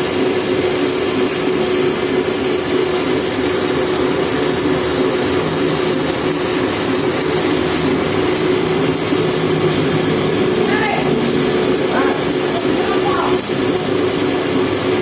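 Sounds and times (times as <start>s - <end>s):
machine hum with constant tone: 0.0s - 15.0s
grinding noise: 1.0s - 15.0s.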